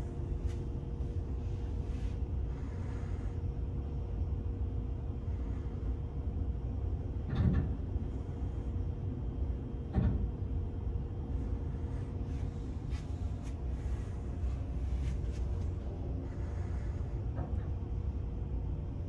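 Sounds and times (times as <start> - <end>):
ferry interior rumble and hum: 0.0 - 19.0.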